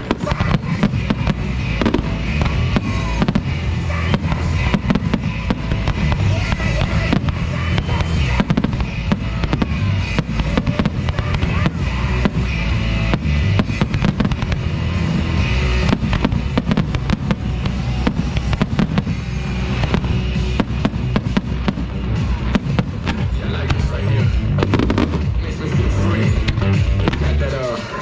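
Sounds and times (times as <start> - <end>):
low rumble: 0.0 - 27.7
fireworks bangs and crackles: 0.0 - 28.0
music playing: 0.0 - 28.0.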